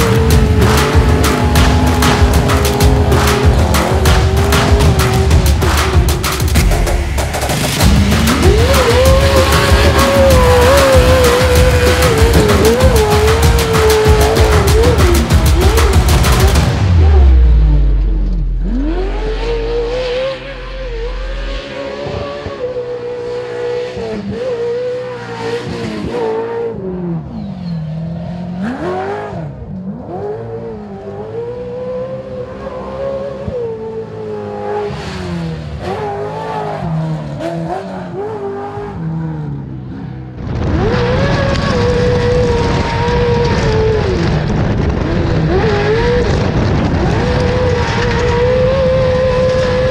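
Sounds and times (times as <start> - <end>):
race truck engine revving: 0.0 - 49.9.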